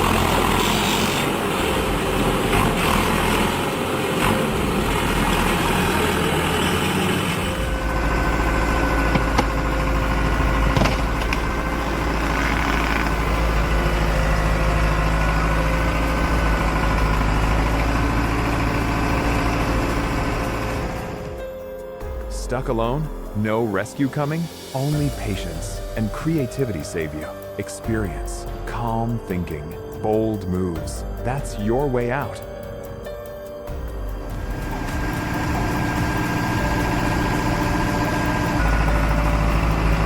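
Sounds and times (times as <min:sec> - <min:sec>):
tractor engine running: 0:00.0 - 0:23.4, 0:27.8 - 0:40.0.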